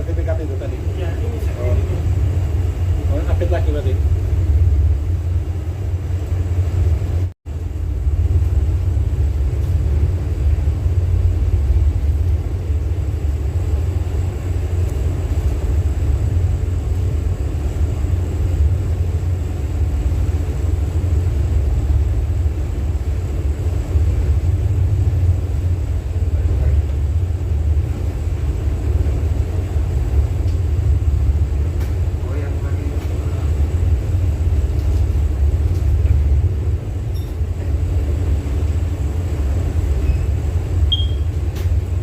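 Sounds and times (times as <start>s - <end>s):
low rumble aboard ship: 0.0s - 42.0s.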